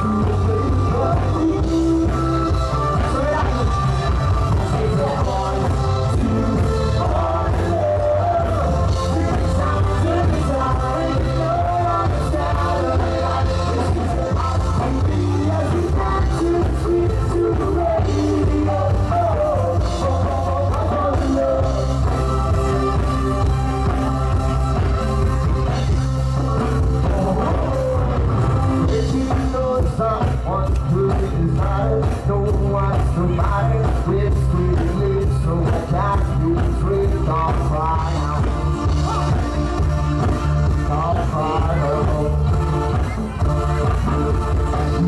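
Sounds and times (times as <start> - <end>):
dance music with singing: 0.0 - 25.3, 26.6 - 45.0
heavy bass: 0.0 - 45.0.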